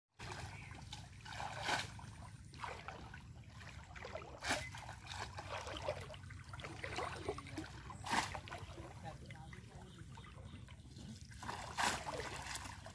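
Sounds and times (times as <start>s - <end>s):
person wading through water: 0.2s - 12.9s.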